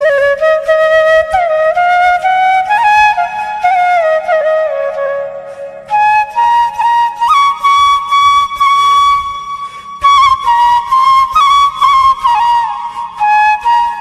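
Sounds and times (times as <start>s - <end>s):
flute solo melody: 0.0s - 14.0s.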